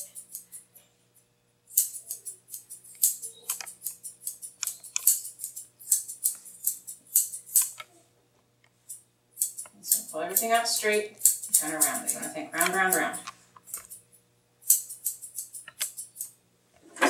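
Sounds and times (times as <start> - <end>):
scissors snipping dog fur: 0.0 - 0.6, 1.7 - 8.0, 8.9 - 16.4.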